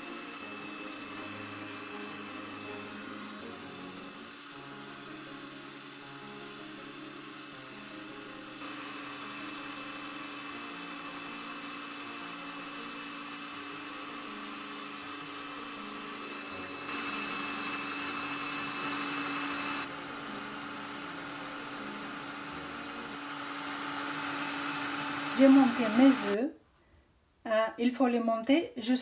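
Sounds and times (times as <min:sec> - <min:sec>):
stand mixer whisking: 0:00.0 - 0:26.4.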